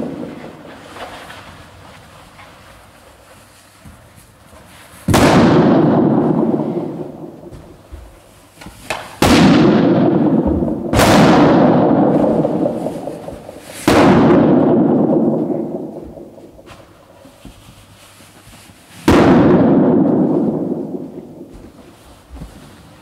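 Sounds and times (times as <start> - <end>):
balloons bursting with echo: 0.0 - 2.2, 2.9 - 17.6, 18.3 - 22.6.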